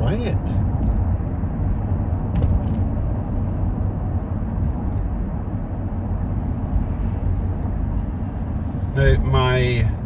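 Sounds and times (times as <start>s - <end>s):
engine rumble: 0.0s - 10.0s
tyre road noise: 0.0s - 10.0s.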